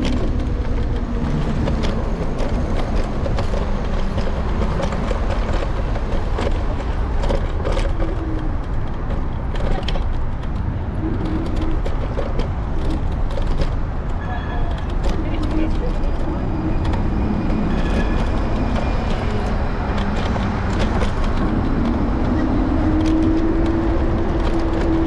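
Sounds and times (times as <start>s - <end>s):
scooter rattling clicks: 0.0s - 25.0s
wind and road noise rumble: 0.0s - 25.0s.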